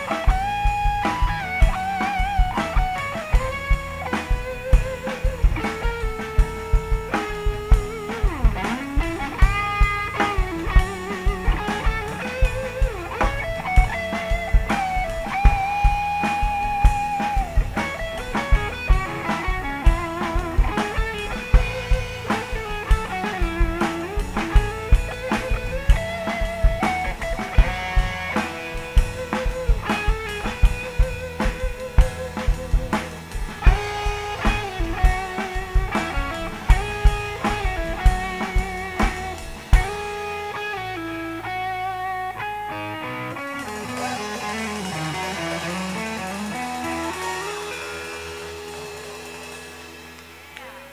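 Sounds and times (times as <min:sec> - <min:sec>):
steady drums: 0:00.0 - 0:42.5, 0:43.2 - 0:50.9
electric guitar lead with vibrato: 0:00.0 - 0:50.9.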